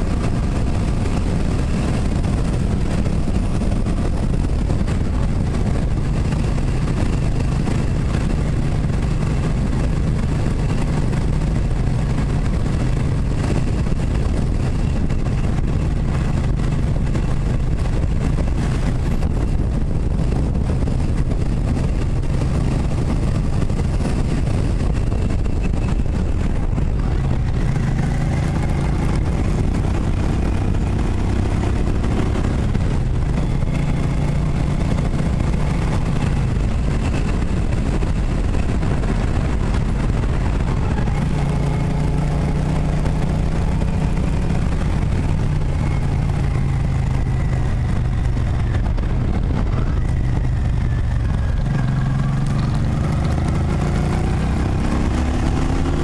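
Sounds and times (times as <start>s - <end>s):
motorcycle engine running: 0.0s - 56.0s
wind rush: 0.0s - 56.0s.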